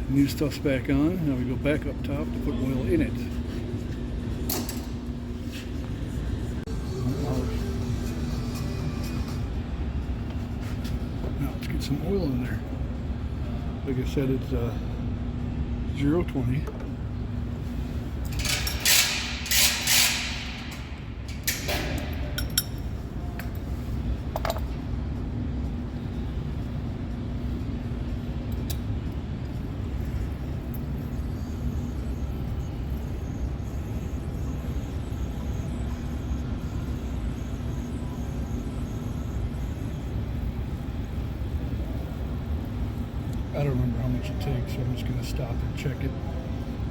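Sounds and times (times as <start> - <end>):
low hum: 0.0 - 46.9.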